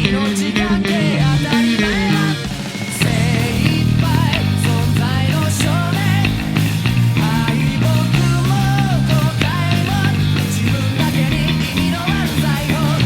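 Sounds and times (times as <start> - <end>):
electric bass playing: 0.0 - 13.0
person singing: 0.0 - 13.0
rock band recording: 0.0 - 13.0.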